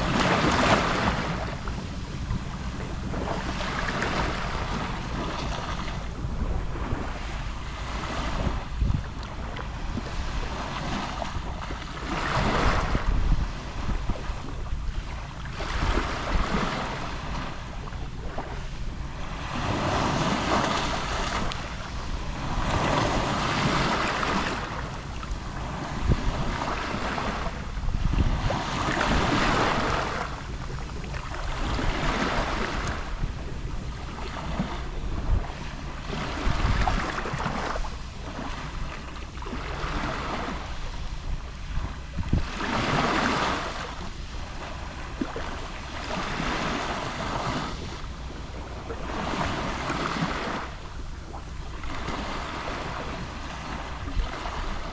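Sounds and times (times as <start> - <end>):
waves lapping on shore: 0.0 - 54.9
wind rumble on microphone: 0.0 - 54.9.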